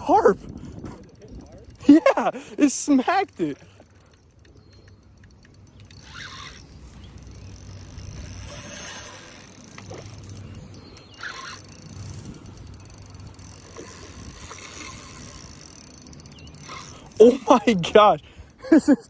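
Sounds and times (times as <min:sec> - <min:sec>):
fishing reel gears ticking: 0:00.0 - 0:19.0
low wind rumble: 0:00.0 - 0:19.0.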